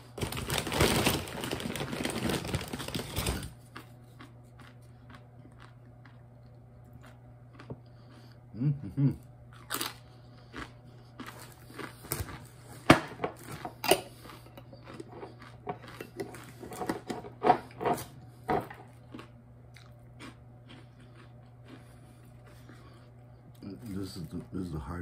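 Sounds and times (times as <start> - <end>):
chewing crunchy chips: 0.0 - 24.8.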